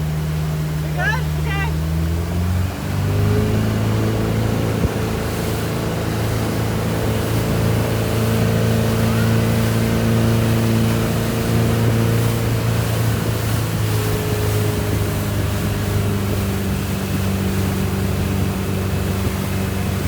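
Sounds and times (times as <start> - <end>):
motorboat engine running: 0.0 - 20.0
water and wind rushing: 0.0 - 20.0.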